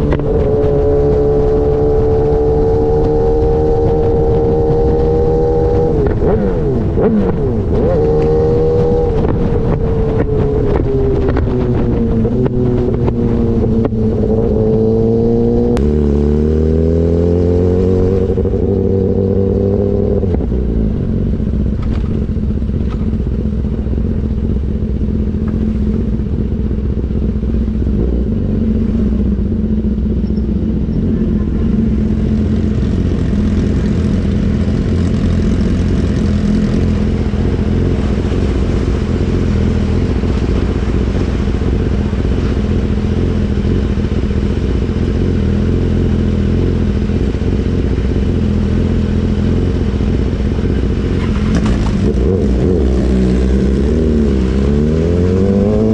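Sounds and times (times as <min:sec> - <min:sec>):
motorcycle engine accelerating hard: 0:00.0 - 0:55.9.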